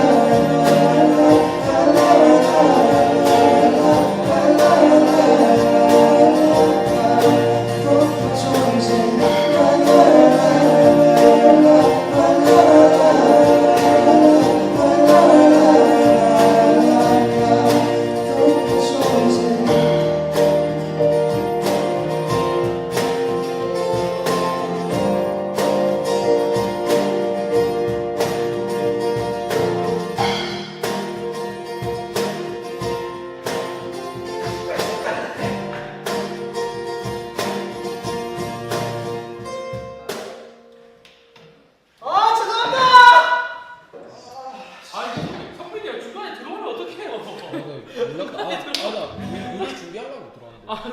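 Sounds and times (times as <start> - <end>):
keyboard: 0.0 - 41.3
piano: 0.0 - 45.7
acoustic guitar: 0.0 - 50.8.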